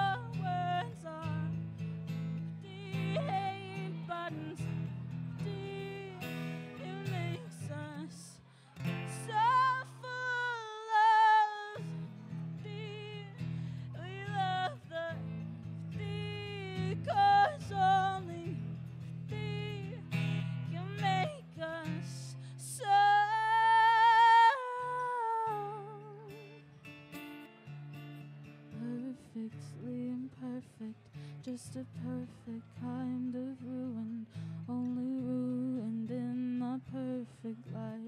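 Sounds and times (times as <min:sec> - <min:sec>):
woman singing: 0:00.0 - 0:26.6, 0:28.7 - 0:38.0
acoustic guitar chords: 0:00.0 - 0:38.0.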